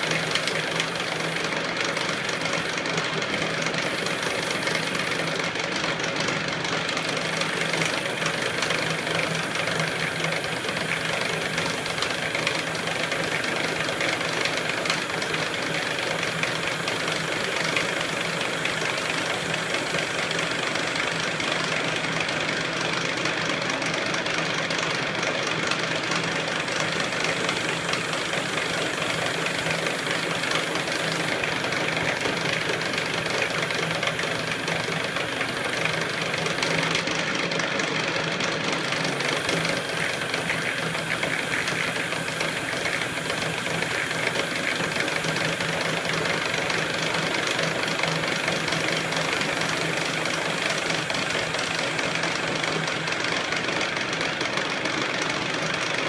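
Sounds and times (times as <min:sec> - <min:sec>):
low machine hum: 0:00.0 - 0:23.2, 0:25.0 - 0:37.2, 0:38.8 - 0:53.8
metal lathe running: 0:00.0 - 0:56.0.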